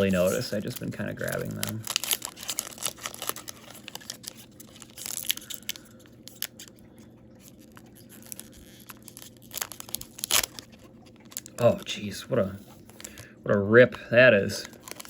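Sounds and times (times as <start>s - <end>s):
card pack wrapper tearing: 0.0s - 6.8s, 7.4s - 13.2s, 14.6s - 15.0s.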